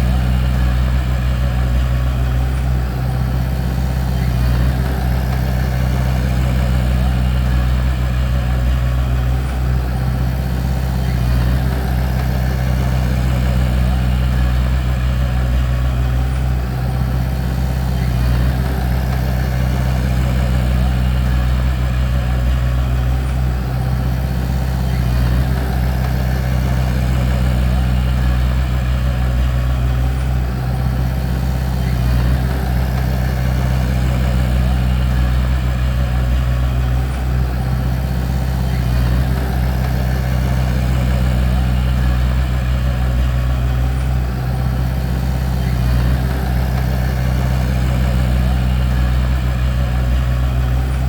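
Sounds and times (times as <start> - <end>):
bulldozer diesel engine droning: 0.0 - 51.0.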